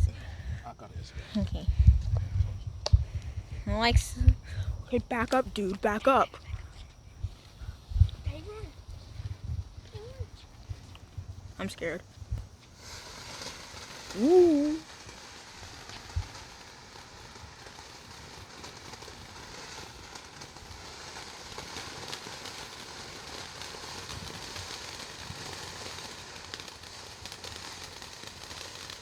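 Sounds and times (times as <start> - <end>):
firework fountain hissing: 0.0 - 29.0.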